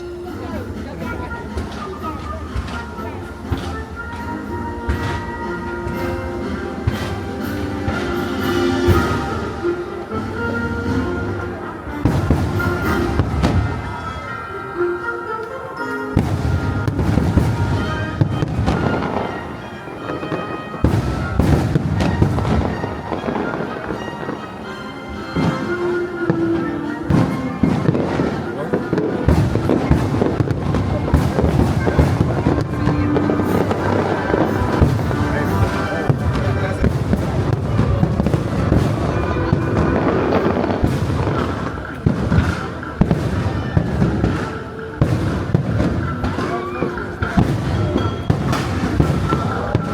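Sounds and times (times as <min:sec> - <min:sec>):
fireworks booming and crackling: 0:00.0 - 0:14.6, 0:16.1 - 0:49.9
music soundtrack: 0:00.0 - 0:49.9.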